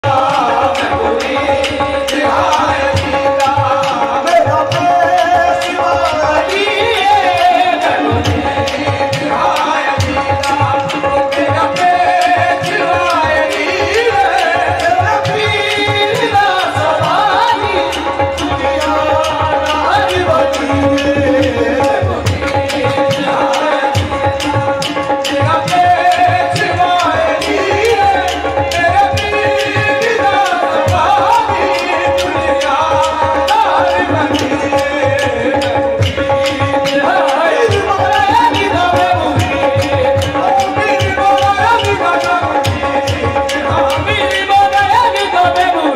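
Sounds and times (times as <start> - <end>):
hand-drum beat: 0.0 - 45.9
harmonium notes: 0.0 - 45.9
man singing: 0.0 - 45.9
rhythmic hand claps: 0.0 - 45.9
tabla strikes: 0.0 - 45.9.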